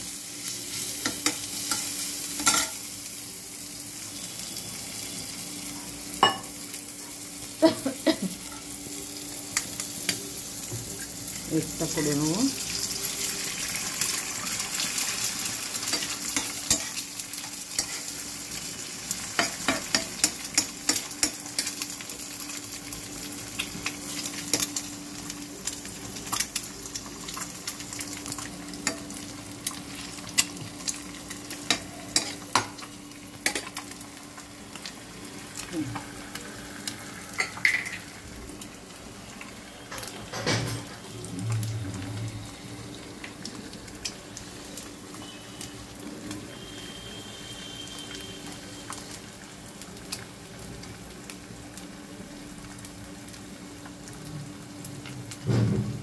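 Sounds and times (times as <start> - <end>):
egg sizzling in a frying pan: 0.0 - 56.0.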